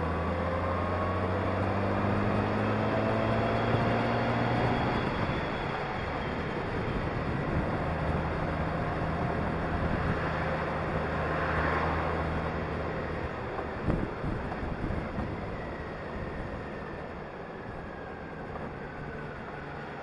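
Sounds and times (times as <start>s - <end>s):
motorcycle engine hum: 0.0s - 20.0s
road noise: 0.0s - 20.0s
wind noise: 1.0s - 19.6s.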